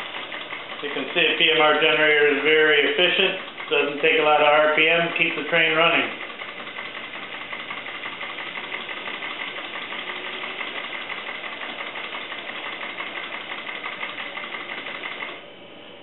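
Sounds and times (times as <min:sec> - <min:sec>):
model steam engine exhaust beat: 0:00.0 - 0:15.4
mechanical clatter: 0:00.0 - 0:15.5.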